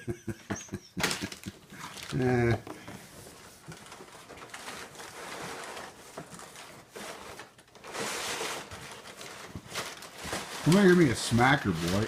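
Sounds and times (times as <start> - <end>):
packing paper rustling: 1.0 - 12.0.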